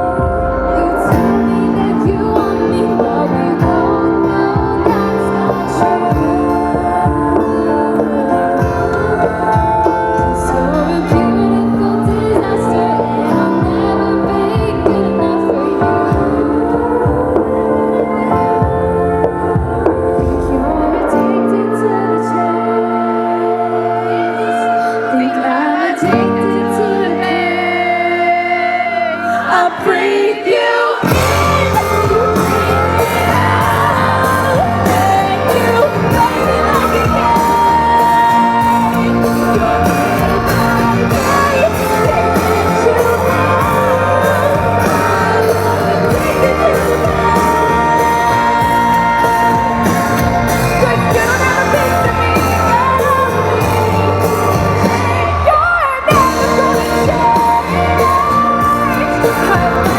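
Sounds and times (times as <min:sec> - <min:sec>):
steady drum beat: 0:00.0 - 0:21.1, 0:31.0 - 0:55.5, 0:56.1 - 0:59.9
female voices singing in harmony: 0:00.0 - 0:59.9
held chords: 0:00.0 - 0:59.9.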